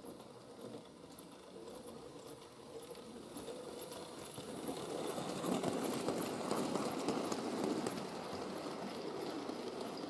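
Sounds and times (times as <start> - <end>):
wheels clicking on rail: 0.0 - 10.0.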